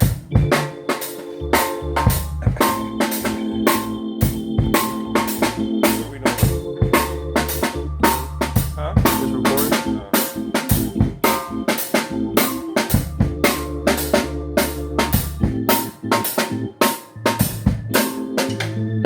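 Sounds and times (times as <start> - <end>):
bass drum and snare beat: 0.0 - 0.7, 1.6 - 10.0, 10.6 - 16.5, 17.4 - 18.7
band playing a song: 0.0 - 18.9.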